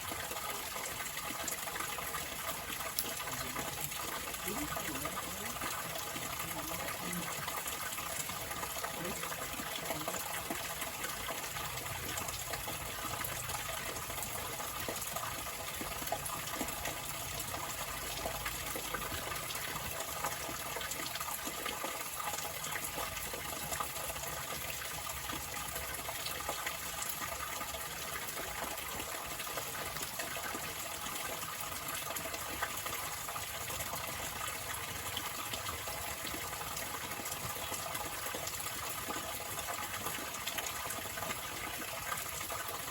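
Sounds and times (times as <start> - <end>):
water flowing: 0.0 - 42.9.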